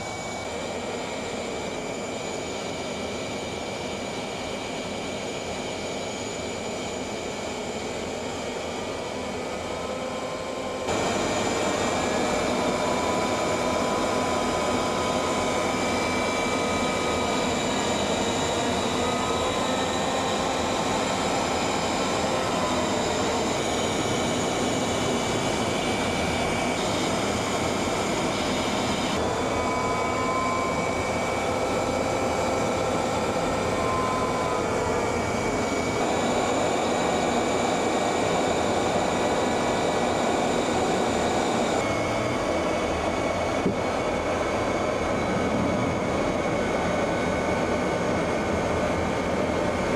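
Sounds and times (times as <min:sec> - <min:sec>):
jet aircraft rushing and whining: 0:00.0 - 0:49.9.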